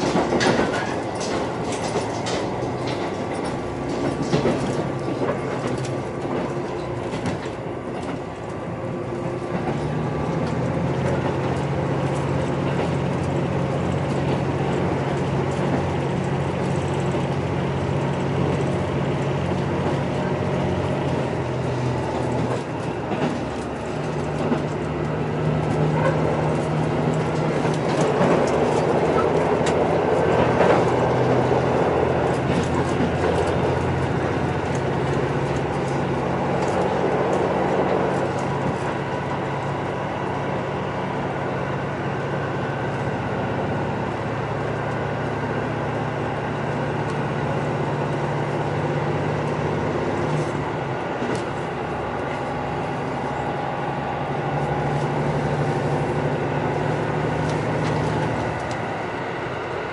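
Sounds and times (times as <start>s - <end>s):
diesel engine drone: 0.0s - 59.9s
train wheels rumbling on rails: 0.0s - 59.9s.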